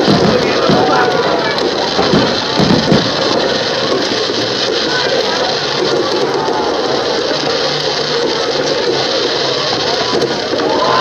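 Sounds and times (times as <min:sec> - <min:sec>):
crowd: 0:00.0 - 0:11.0
firework crackle: 0:00.0 - 0:11.0
firework thumps: 0:00.0 - 0:11.0.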